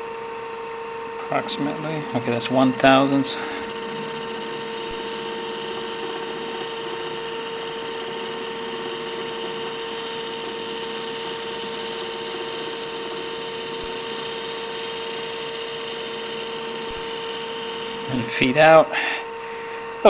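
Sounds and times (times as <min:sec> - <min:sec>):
lathe running with steady hum: 0:00.0 - 0:20.0
cutting bit cutting aluminum: 0:00.9 - 0:18.9.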